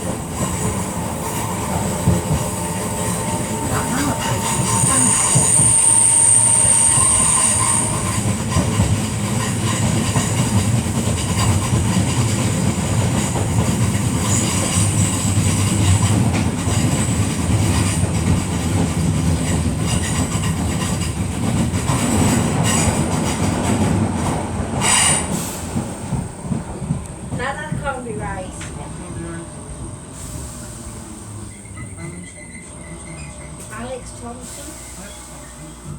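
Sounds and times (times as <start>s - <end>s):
train wheels rumbling on track: 0.0s - 35.9s.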